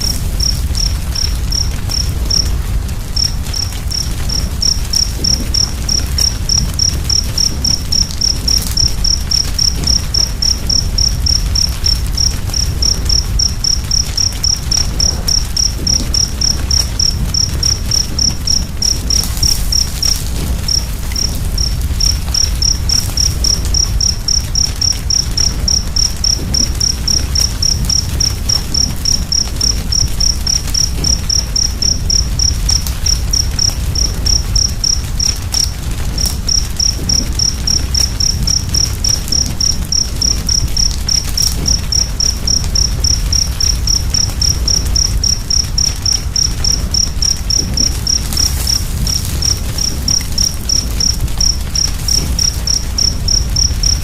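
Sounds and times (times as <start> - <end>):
crackling fire with low rumble: 0.0 - 54.0
cricket chirping: 0.0 - 54.0.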